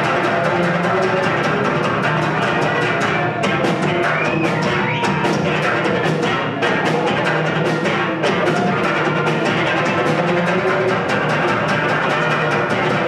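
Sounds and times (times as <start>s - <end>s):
electric guitar: 0.0s - 13.0s
fast drum-kit beat: 0.0s - 13.0s.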